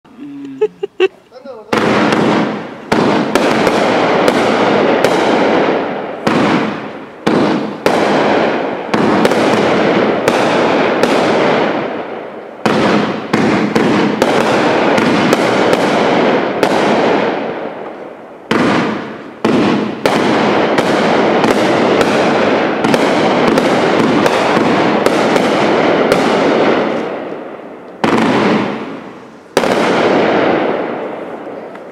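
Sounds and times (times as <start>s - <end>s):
firework bangs: 0.6s - 31.9s.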